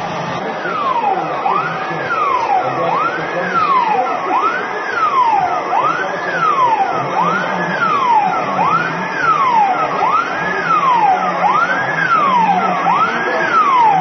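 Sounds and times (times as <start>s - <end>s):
wailing electronic siren: 0.0s - 14.0s.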